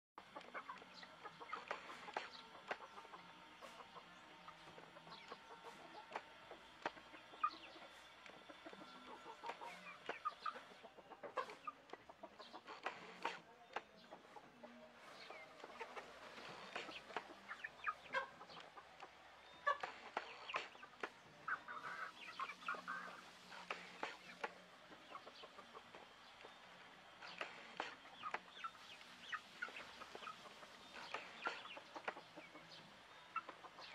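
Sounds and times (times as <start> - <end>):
beaks pecking the ground: 0.2 - 33.9
chickens clucking softly: 0.2 - 33.9.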